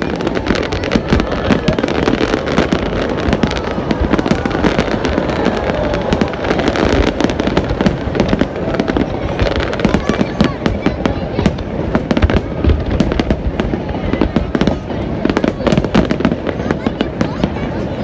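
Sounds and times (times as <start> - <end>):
fireworks cracking and banging: 0.0 - 18.0.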